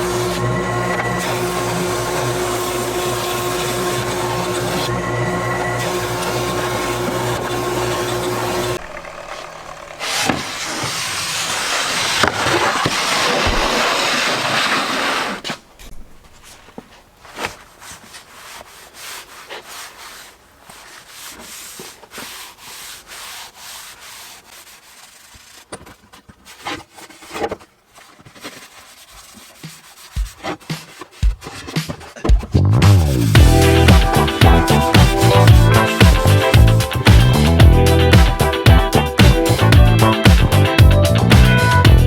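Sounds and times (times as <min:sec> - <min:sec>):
sanding wood hiss: 0:00.0 - 0:15.6, 0:17.9 - 0:25.7, 0:28.5 - 0:32.2, 0:33.1 - 0:42.0.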